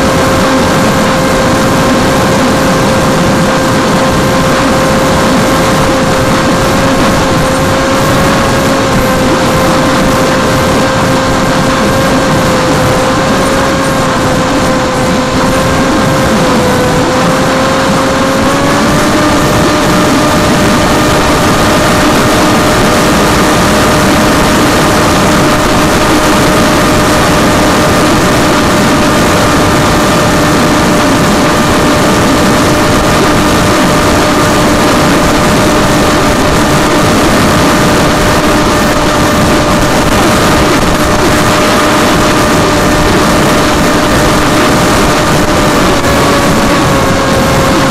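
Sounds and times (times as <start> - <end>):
model aircraft motor humming: 0.0 - 47.9
rush of air: 0.0 - 47.9.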